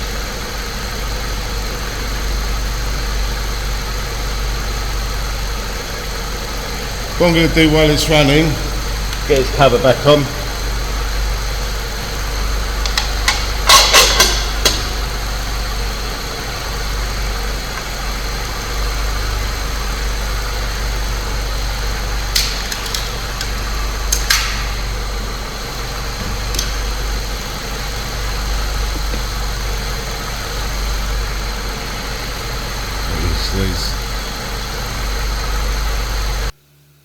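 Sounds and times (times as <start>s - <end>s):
car engine idling: 0.0s - 36.6s.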